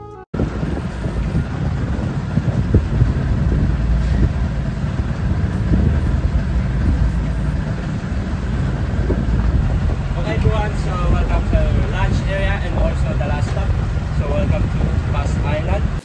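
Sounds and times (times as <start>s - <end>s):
boat engine running: 0.0s - 16.0s
wind buffeting microphone: 0.4s - 16.0s.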